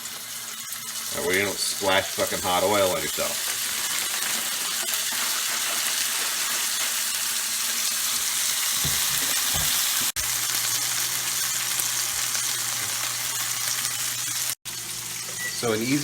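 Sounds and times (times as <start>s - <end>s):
steaks sizzling in oil: 0.0s - 16.0s.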